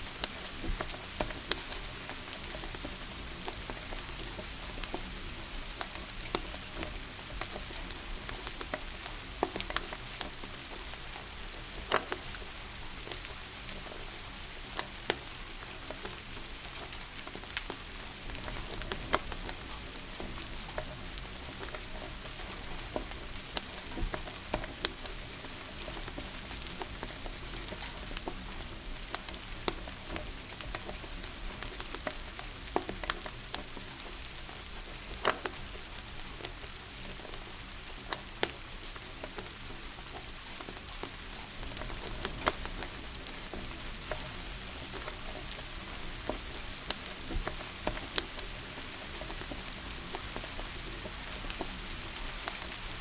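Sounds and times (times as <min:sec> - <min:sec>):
steady rain hiss: 0:00.0 - 0:53.0
wood fire crackling and popping: 0:00.0 - 0:53.0.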